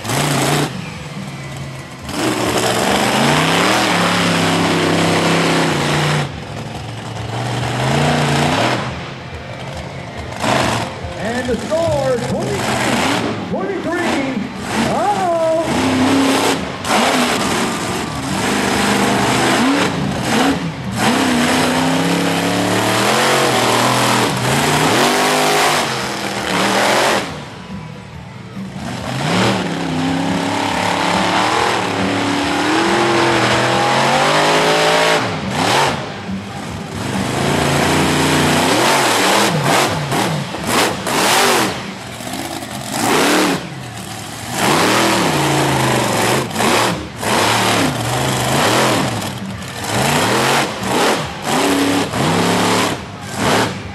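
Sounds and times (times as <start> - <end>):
truck engines revving hard: 0.0 - 53.9.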